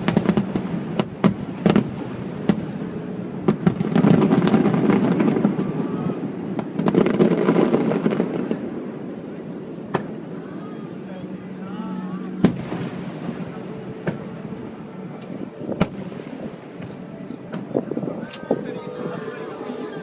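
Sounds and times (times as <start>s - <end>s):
fireworks bursting: 0.0s - 20.0s
fireworks crackling: 0.0s - 20.0s.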